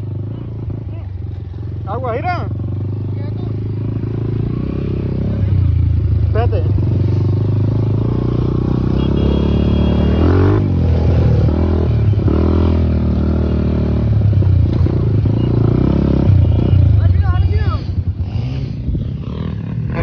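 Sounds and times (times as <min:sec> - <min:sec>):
small motorcycle engine revving: 0:02.9 - 0:20.0.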